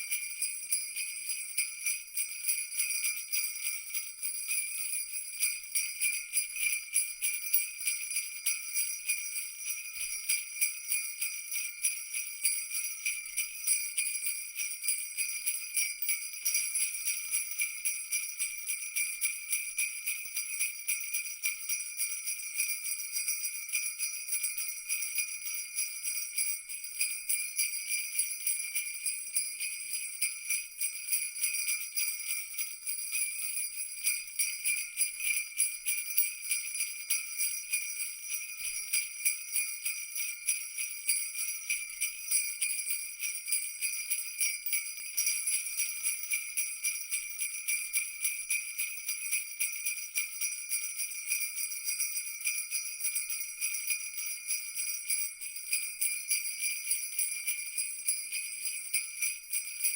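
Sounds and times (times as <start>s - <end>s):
small bells shaking: 0.0s - 59.9s.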